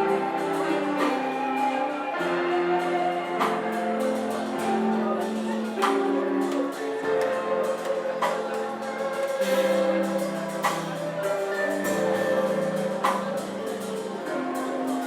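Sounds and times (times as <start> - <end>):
music with held chords: 0.0 - 15.0
light percussion beat: 2.8 - 15.0.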